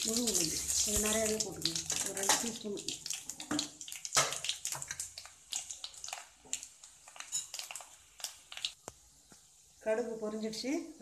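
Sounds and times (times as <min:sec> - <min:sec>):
mustard seeds crackling and popping: 0:00.0 - 0:09.4
seeds frying in hot oil: 0:00.0 - 0:11.0.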